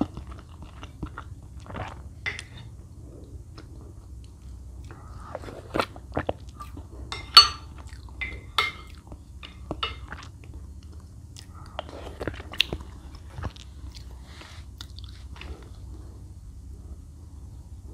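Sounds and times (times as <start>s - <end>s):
person chewing wetly: 0.0s - 6.9s, 7.7s - 15.9s.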